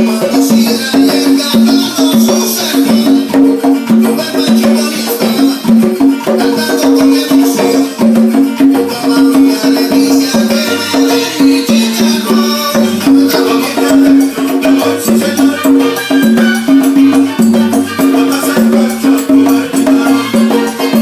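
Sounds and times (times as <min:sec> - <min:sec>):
congas played by hand: 0:00.0 - 0:21.0.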